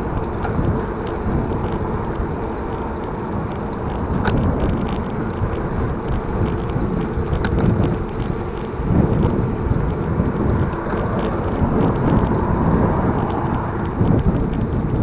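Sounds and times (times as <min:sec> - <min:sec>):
bicycle clicks and rattles: 0:00.0 - 0:15.0
wind rumbling on microphone: 0:00.0 - 0:15.0.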